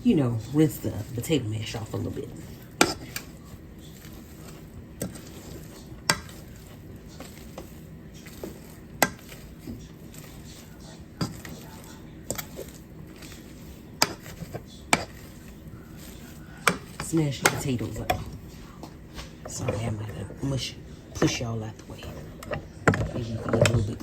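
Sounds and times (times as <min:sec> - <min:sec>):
potato masher mashing potatoes: 0:00.0 - 0:24.0.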